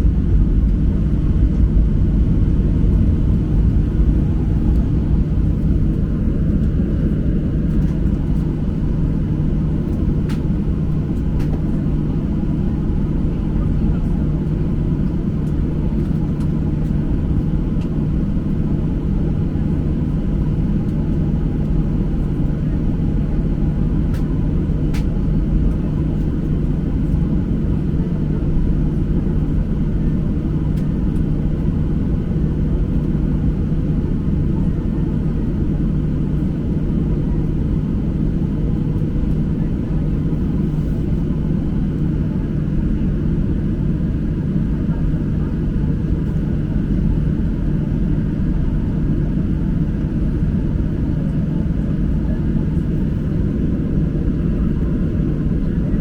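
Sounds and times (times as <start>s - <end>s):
airliner cabin rumble: 0.0s - 56.0s
constant low hum: 0.0s - 56.0s.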